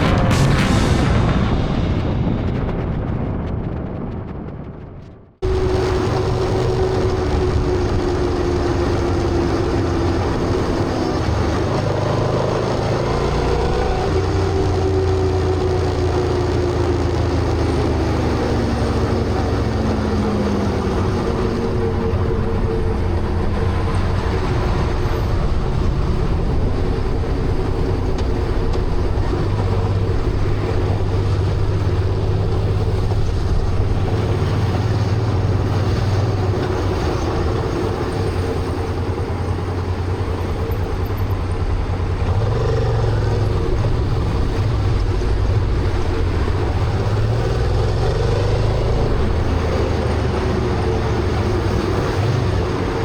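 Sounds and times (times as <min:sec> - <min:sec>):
road noise: 0:00.0 - 0:53.0
wind noise: 0:00.0 - 0:53.0
motorcycle engine cruising: 0:05.4 - 0:53.0.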